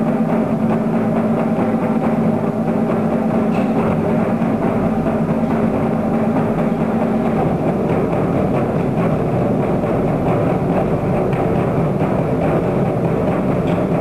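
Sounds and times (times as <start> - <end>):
barrel drums ensemble: 0.0 - 14.0.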